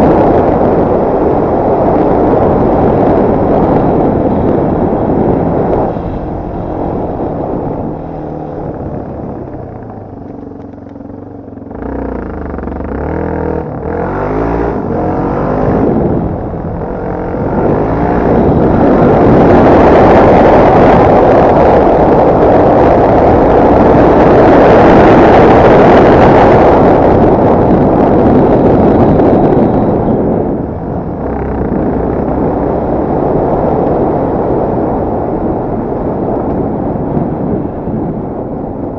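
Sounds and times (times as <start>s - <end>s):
wind noise on microphone: 0.0s - 38.9s
motorcycle engine revving: 0.4s - 35.9s.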